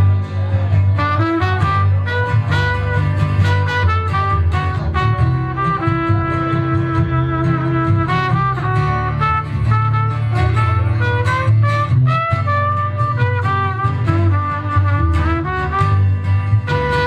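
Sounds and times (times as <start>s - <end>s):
bass and rhythm accompaniment: 0.0s - 17.0s.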